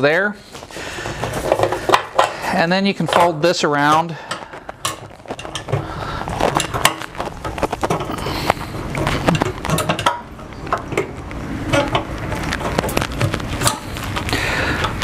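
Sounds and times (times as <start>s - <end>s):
clicks knocks and scraping of parts: 0.6s - 15.0s.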